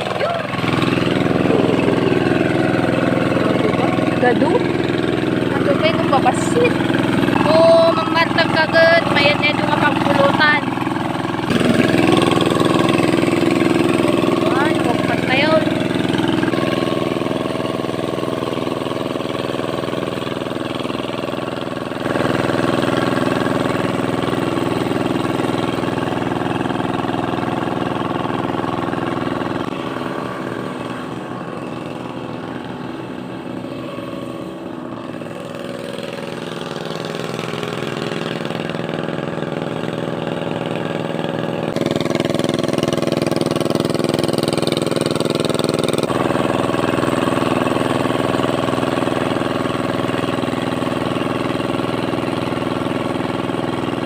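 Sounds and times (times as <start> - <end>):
hand tractor engine running: 0.0 - 54.0.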